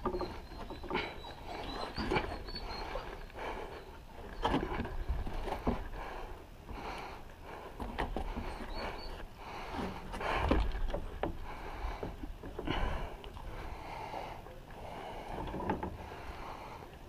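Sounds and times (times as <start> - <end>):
breathing: 0.9 - 4.0, 5.5 - 17.0.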